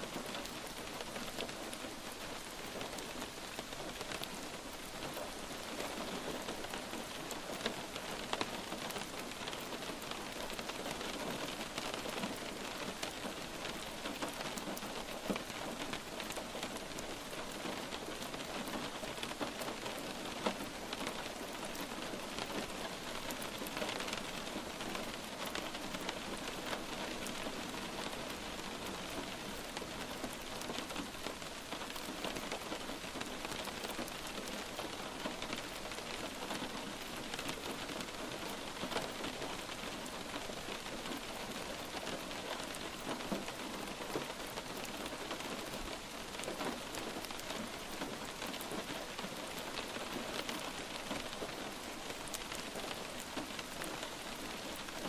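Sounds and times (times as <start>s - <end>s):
light rain: 0.0s - 55.0s
raindrops ticking on surface: 0.0s - 55.0s.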